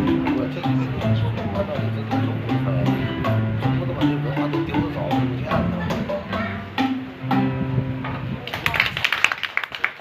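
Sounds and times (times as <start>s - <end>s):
low plucked or bowed notes: 0.0s - 8.4s.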